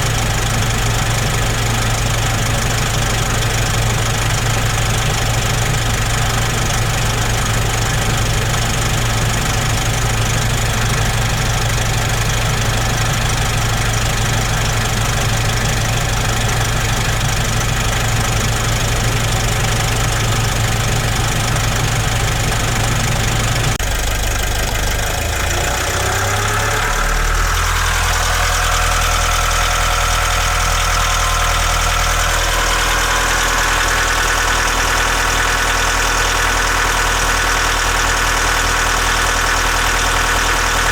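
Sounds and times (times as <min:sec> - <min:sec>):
diesel engine clattering: 0:00.0 - 0:40.9
engine whine: 0:00.0 - 0:40.9.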